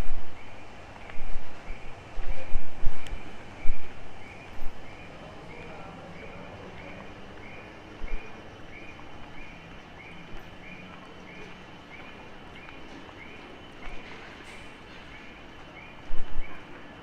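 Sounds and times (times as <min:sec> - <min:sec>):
city traffic hum: 0:00.0 - 0:17.0
pedestrian crossing signal chirping: 0:03.0 - 0:17.0.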